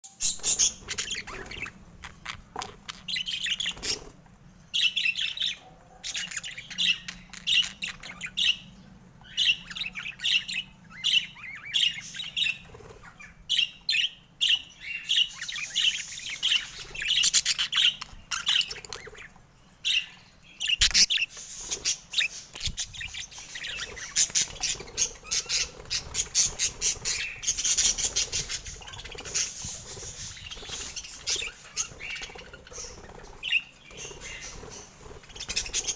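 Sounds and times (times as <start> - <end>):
budgerigars chirping and squawking: 0.1 - 35.9.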